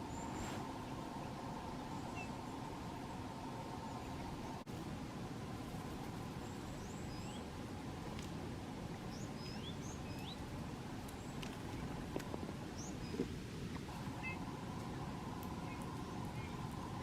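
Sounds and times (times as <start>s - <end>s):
low background rumble: 0.0s - 17.0s
songbirds chirping: 0.0s - 17.0s.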